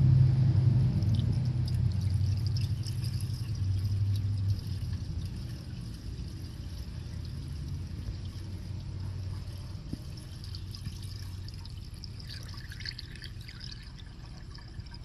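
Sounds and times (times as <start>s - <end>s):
low hum: 0.0s - 15.0s
liquid trickling and splashing: 0.6s - 15.0s.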